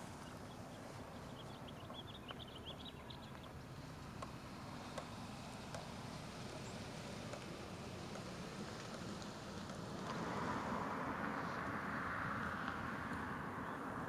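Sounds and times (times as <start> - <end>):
faint low wind rumble: 0.0 - 14.0.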